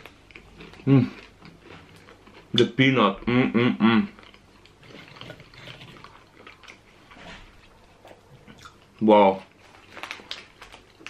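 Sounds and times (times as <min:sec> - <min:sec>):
wet chewing sounds: 0:00.0 - 0:02.8, 0:04.0 - 0:11.0.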